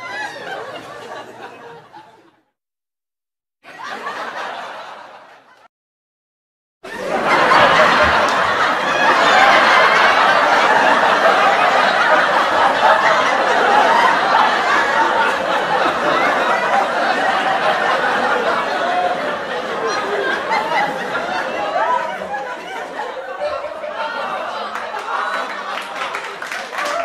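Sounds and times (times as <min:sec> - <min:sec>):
large audience laughing: 0:00.0 - 0:02.6, 0:03.7 - 0:05.7, 0:06.9 - 0:27.0.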